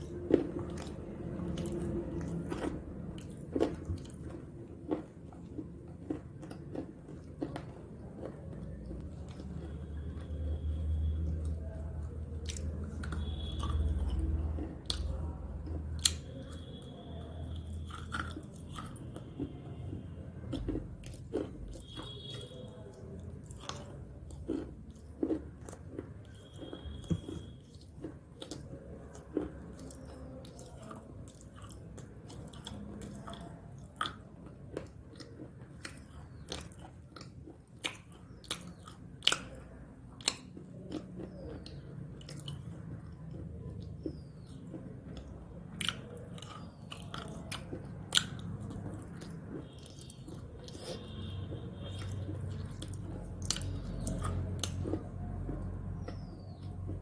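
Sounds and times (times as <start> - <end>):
crunching snack sticks: 0.0 - 57.0
quiet chewing: 0.0 - 57.0.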